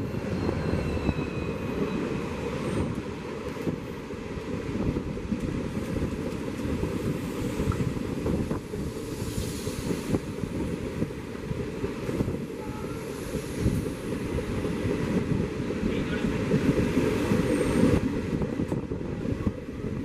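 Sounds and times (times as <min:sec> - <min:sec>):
trains rumbling past: 0:00.0 - 0:20.0
wind buffeting microphone: 0:00.0 - 0:20.0.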